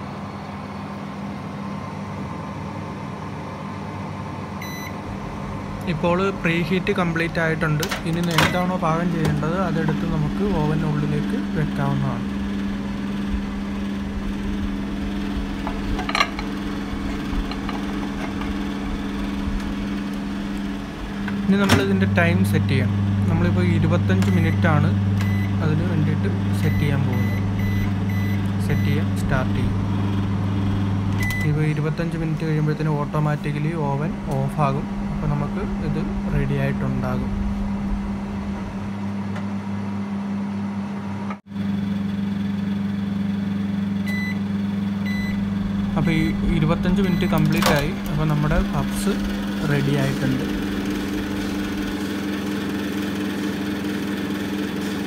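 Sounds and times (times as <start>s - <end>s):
microwave oven humming: 0.0s - 55.0s.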